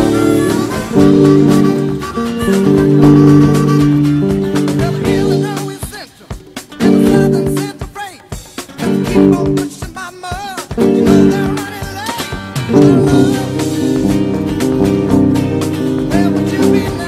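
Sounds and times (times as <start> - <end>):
bending lead guitar notes: 0.0 - 7.8, 8.7 - 9.8, 10.8 - 17.0
electric guitar chords: 0.0 - 10.0, 10.6 - 17.0
band backing track: 0.0 - 17.0.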